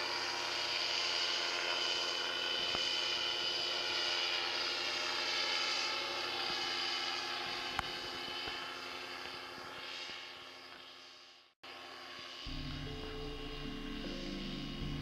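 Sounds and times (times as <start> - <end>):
paramotor engine droning: 0.0 - 15.0.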